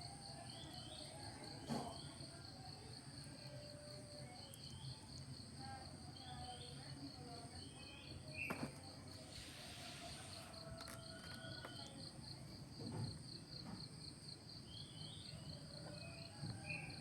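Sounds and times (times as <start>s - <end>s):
insects chirping: 2.0s - 17.0s.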